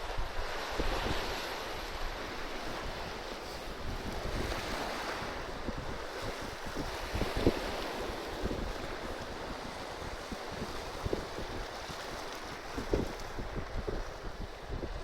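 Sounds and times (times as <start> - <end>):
sea waves surging: 0.0 - 15.0
wind buffeting microphone: 0.0 - 15.0.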